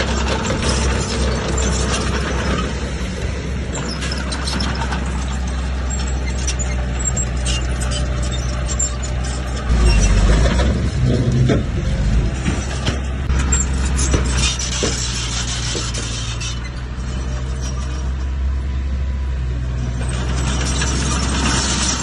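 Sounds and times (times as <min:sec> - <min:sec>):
metallic clanking and squeaks: 0:00.0 - 0:18.4, 0:19.8 - 0:22.0
diesel engine running: 0:00.0 - 0:22.0.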